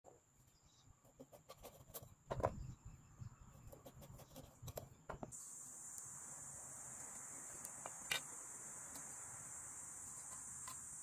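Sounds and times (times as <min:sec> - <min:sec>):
faint high-pitched whine: 0:00.1 - 0:11.0.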